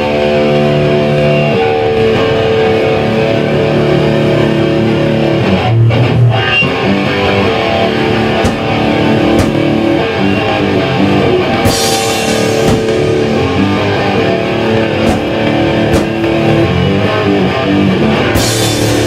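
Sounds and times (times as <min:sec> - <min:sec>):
bass guitar: 0:00.0 - 0:19.0
electric guitar chords: 0:00.0 - 0:19.0.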